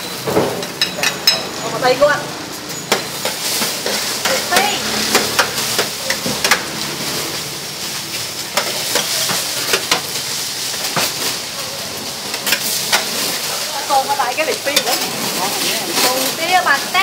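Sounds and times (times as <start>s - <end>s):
metal spatula scraping griddle: 0.0s - 17.0s
noodles sizzling on griddle: 0.0s - 17.0s.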